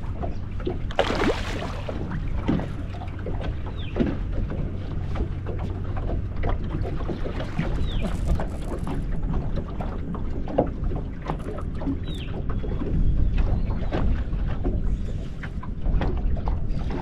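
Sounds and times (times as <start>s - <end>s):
water slapping boat hull: 0.0s - 17.0s
wind buffeting microphone: 0.0s - 17.0s.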